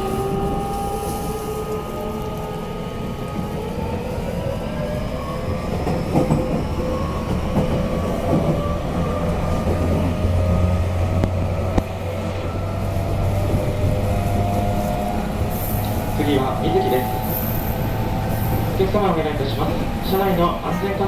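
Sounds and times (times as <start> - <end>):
wheels rumbling on rail: 0.0 - 21.0.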